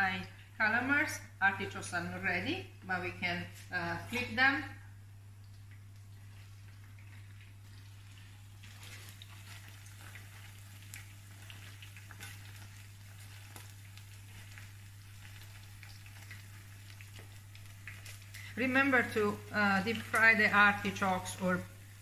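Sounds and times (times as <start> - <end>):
oil sizzling with small pops: 0.0 - 22.0.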